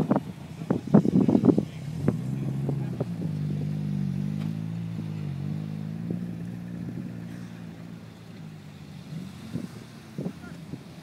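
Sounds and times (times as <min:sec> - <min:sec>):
diesel car engine at low revs: 0:00.0 - 0:11.0.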